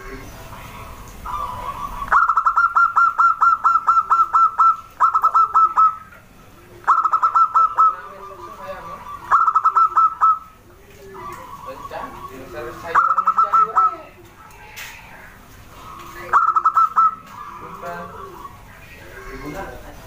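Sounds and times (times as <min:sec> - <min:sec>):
soft low dove coos: 0:00.0 - 0:19.8.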